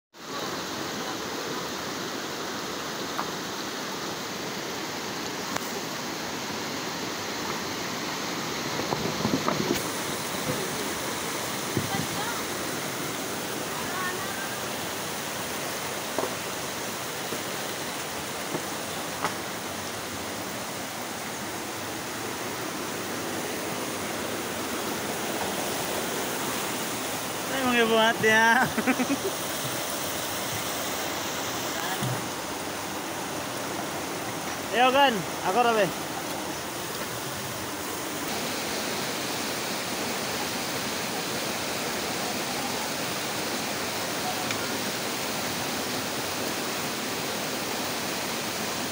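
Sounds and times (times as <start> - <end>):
river rushing over boulders: 0.2 - 48.9
stream running over rocks: 0.2 - 48.9.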